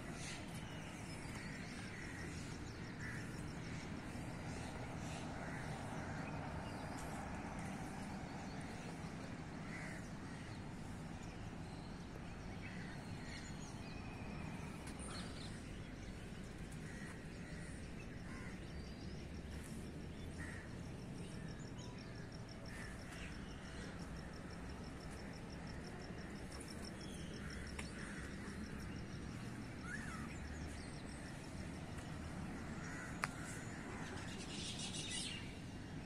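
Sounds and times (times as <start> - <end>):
steady low rumble: 0.0 - 34.4.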